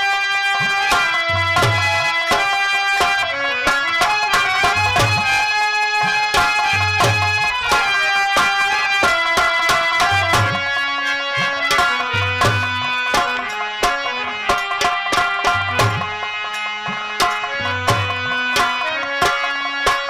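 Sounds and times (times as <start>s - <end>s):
instrumental folk music: 0.0s - 20.0s.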